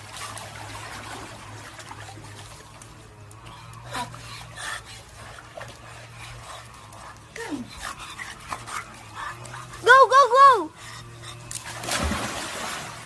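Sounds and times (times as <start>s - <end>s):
pool water splashing and trickling: 0.0s - 13.0s
steady low hum: 0.0s - 13.0s.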